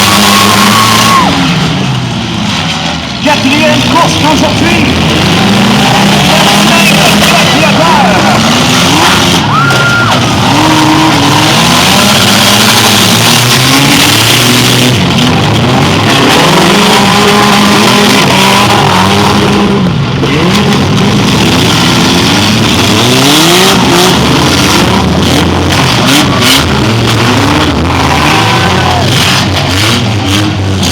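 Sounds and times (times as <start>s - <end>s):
car engines revving hard: 0.0s - 30.9s.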